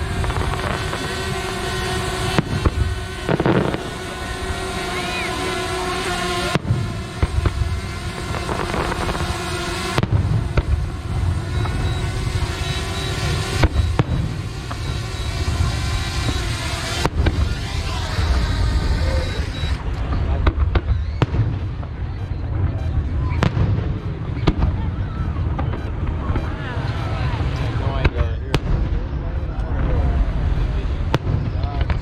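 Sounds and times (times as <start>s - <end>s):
fireworks booming: 0.0s - 32.0s
fireworks crackling: 0.0s - 32.0s
sharp firework bangs: 0.0s - 32.0s.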